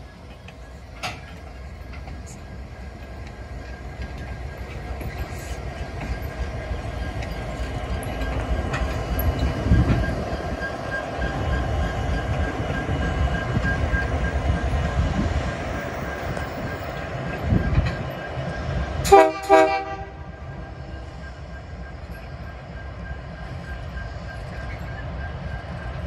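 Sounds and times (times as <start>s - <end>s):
locomotive engine rumble: 0.0s - 26.0s
steel wheels on rails: 0.0s - 26.0s.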